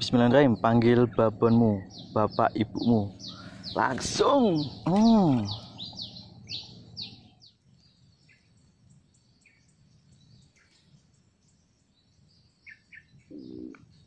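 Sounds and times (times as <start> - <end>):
birds chirping: 0.0 - 14.0
faint high twittering: 0.0 - 14.0.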